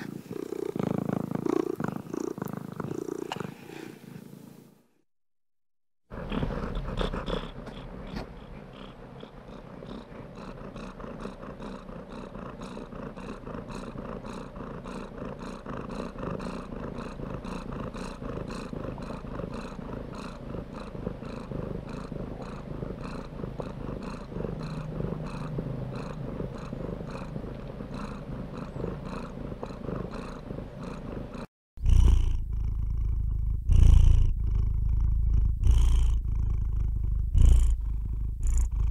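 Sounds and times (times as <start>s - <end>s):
cat purring: 0.0s - 4.4s, 6.1s - 38.9s.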